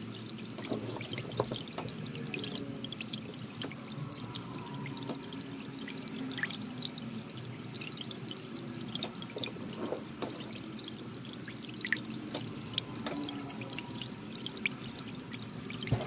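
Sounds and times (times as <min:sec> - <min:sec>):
soft ambient music: 0:00.1 - 0:16.0.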